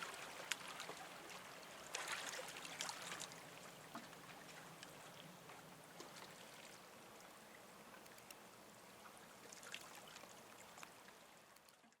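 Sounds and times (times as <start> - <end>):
harbour water lapping: 0.0 - 11.8
small water splashes and drips: 0.0 - 12.0.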